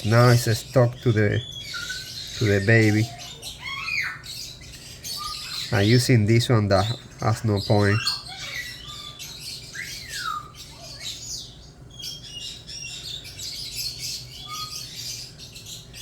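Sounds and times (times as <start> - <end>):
bird chirps and squeaks: 0.0 - 6.1, 6.7 - 16.0
falling bird squawk: 0.0 - 6.1, 6.8 - 16.0.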